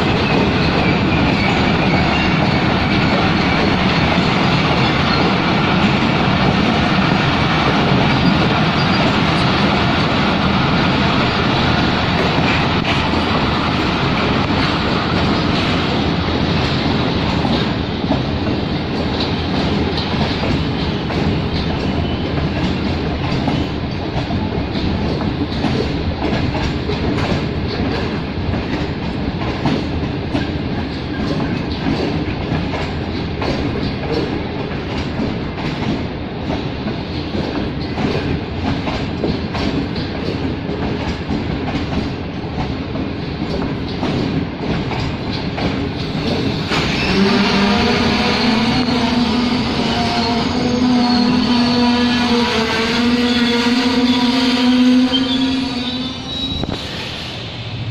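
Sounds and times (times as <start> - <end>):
train rumbling at speed: 0.0 - 57.9
train wheels clicking on rails: 0.0 - 57.9.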